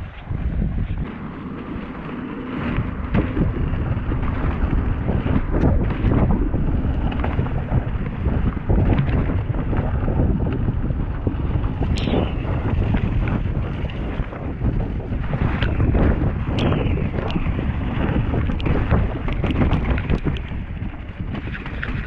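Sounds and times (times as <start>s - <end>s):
wind buffeting microphone: 0.0s - 22.0s
bike rattling and knocking: 0.1s - 22.0s.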